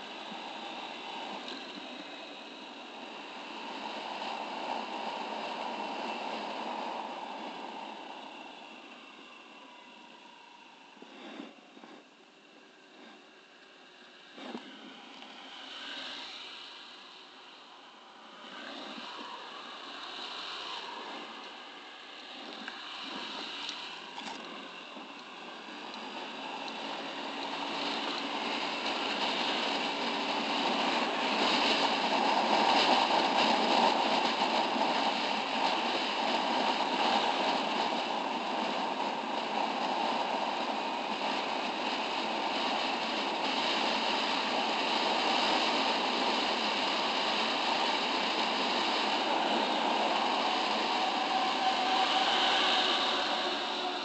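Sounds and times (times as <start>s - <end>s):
wind noise on motorcycle: 0.0s - 10.3s, 18.2s - 54.0s.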